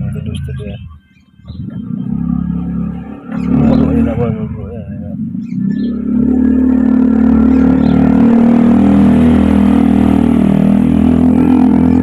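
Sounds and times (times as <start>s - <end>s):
small petrol engine droning: 1.4s - 12.0s.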